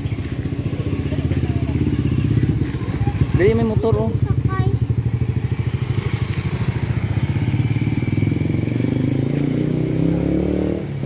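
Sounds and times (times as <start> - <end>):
scooter engine passing by: 0.0 - 11.0.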